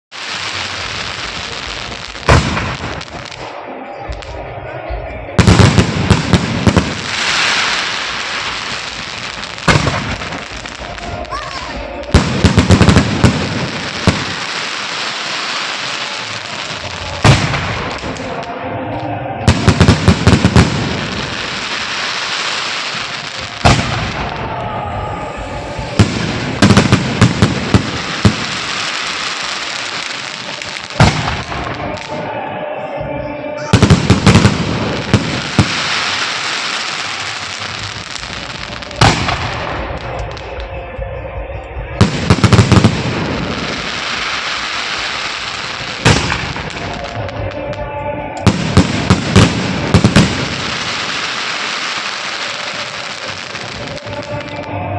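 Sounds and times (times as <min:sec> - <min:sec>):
fireworks crackling hiss: 0:00.1 - 0:32.8, 0:33.6 - 0:54.9
fireworks bangs: 0:00.1 - 0:54.9.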